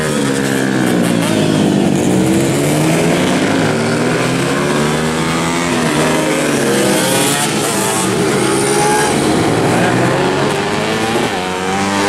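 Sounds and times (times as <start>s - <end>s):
motorcycles revving past: 0.0s - 12.0s.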